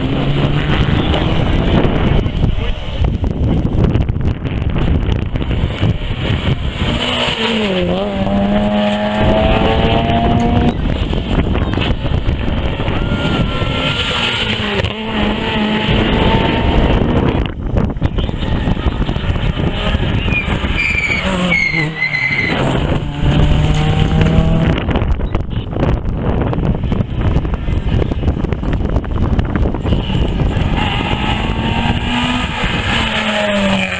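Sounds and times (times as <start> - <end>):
rally car engines at high revs: 0.0 - 33.9.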